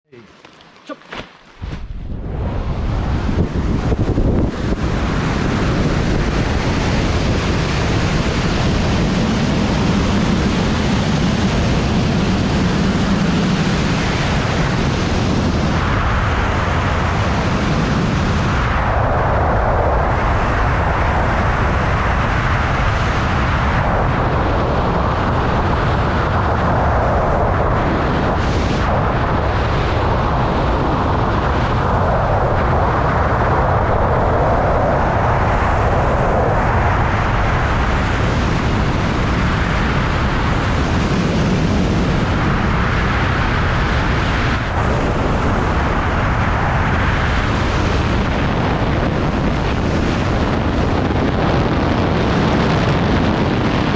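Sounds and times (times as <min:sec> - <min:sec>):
wind buffeting microphone: 0:00.5 - 0:53.9.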